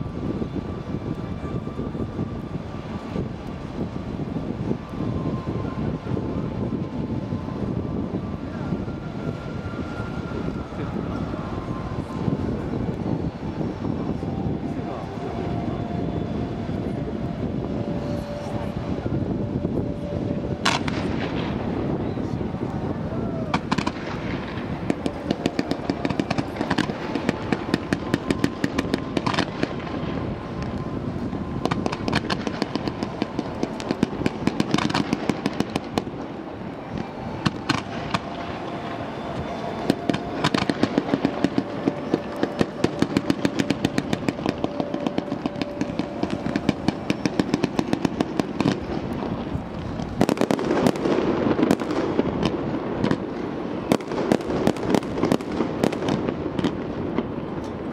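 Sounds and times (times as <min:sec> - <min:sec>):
fireworks bangs: 0:00.0 - 0:57.9
fireworks crackling and popping: 0:00.0 - 0:57.9.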